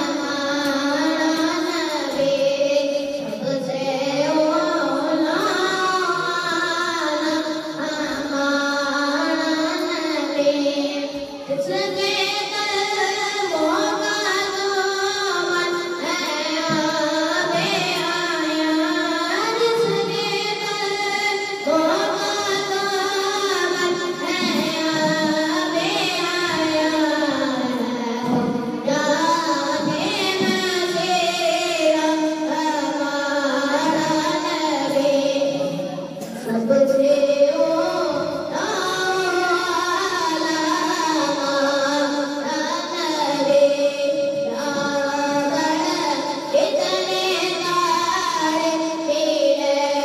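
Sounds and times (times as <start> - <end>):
boy singing into microphone: 0.0 - 50.0.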